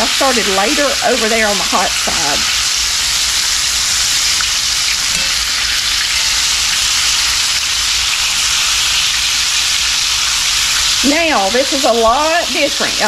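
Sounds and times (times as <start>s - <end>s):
chicken sizzling in a skillet: 0.0s - 13.0s.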